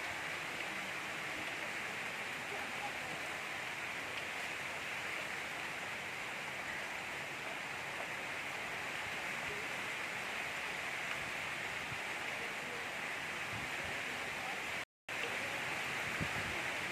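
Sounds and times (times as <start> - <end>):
gentle rain falling: 0.0 - 16.9.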